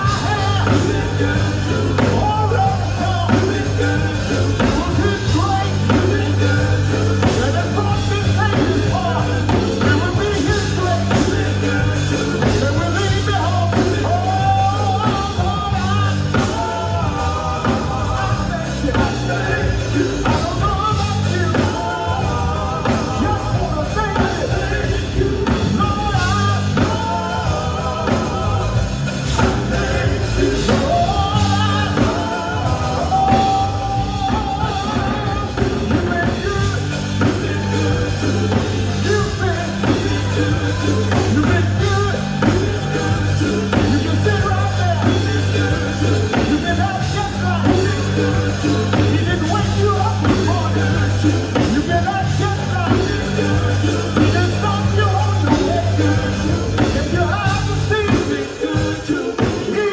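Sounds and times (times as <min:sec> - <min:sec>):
bass guitar: 0:00.0 - 0:59.9
drum kit: 0:00.0 - 0:59.9
person singing: 0:00.0 - 0:59.9.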